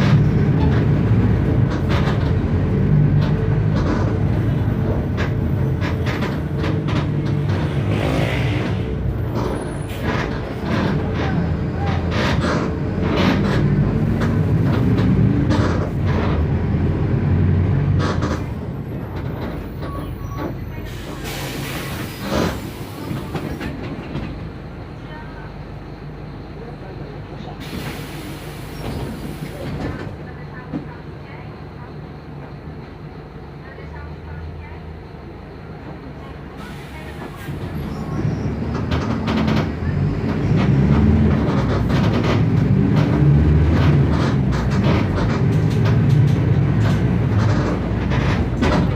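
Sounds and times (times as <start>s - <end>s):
bus body rattling: 0.0s - 48.9s
bus diesel engine running: 0.0s - 48.9s.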